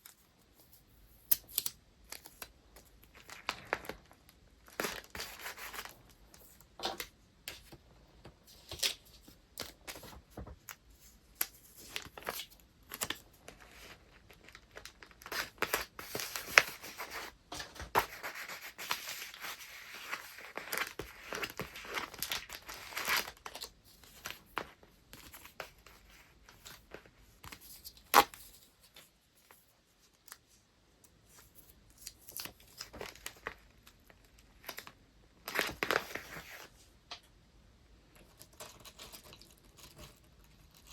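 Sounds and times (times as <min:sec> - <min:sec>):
paper rustling and crinkling: 0:02.1 - 0:07.8, 0:08.4 - 0:30.6, 0:31.3 - 0:36.9.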